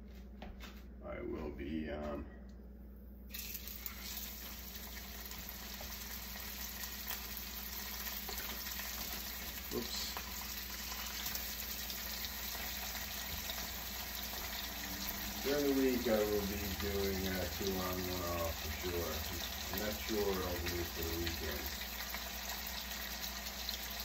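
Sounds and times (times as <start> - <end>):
steak sizzling in a pan: 3.3 - 24.0.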